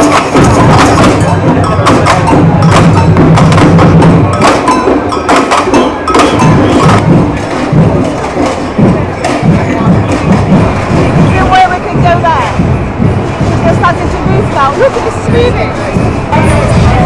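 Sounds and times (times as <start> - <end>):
wood block and drum hits: 0.0 - 17.0.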